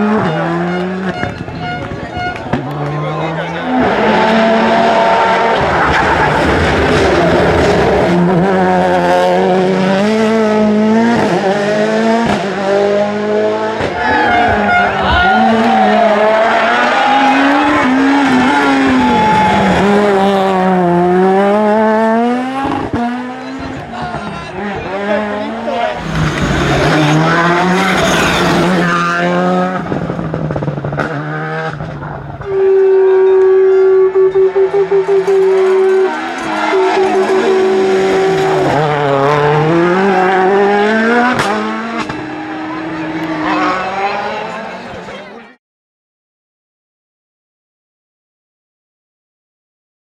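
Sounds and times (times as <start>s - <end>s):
rally car engine at high revs: 0.0s - 32.9s, 34.6s - 45.1s.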